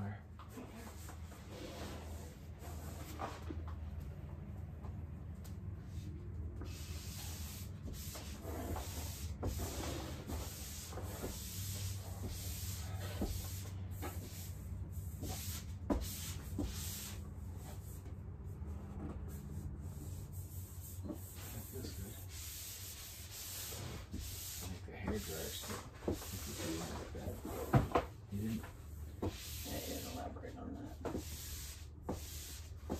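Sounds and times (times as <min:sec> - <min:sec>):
hands rubbing wallpaper: 0:05.8 - 0:32.9.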